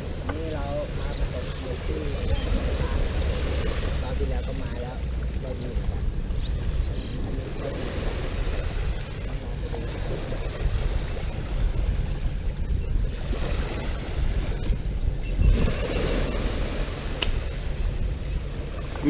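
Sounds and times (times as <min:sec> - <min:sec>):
waves washing: 0:00.0 - 0:19.0
wind buffeting microphone: 0:00.0 - 0:19.0.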